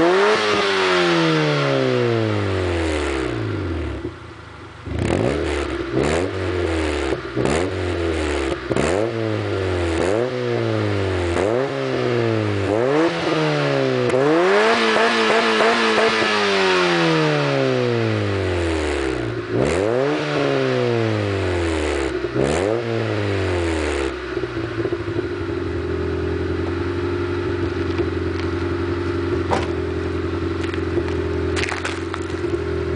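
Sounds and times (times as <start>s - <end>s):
car engine revving: 0.0s - 4.2s, 4.8s - 32.9s.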